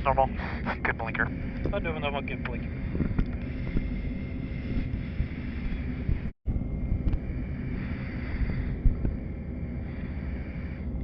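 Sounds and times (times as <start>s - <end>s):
faint high whine: 0.0s - 11.0s
turboprop engine idling rumble: 0.0s - 11.0s.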